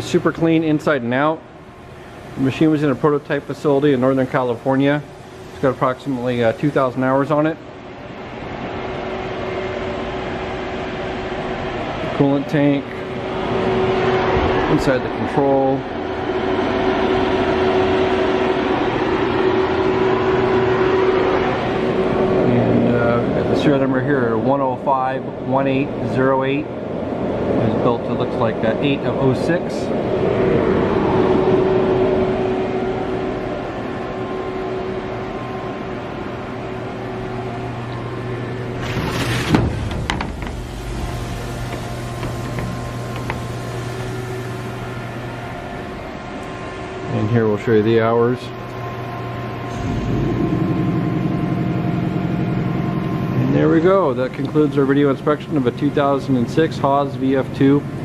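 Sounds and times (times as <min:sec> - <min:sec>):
machine humming and whirring: 0:00.0 - 0:58.0.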